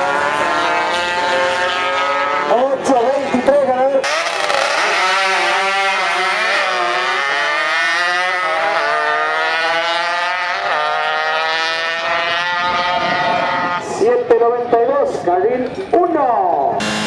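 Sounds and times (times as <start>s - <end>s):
motorcycle engine accelerating: 0.0s - 13.9s, 16.8s - 17.0s.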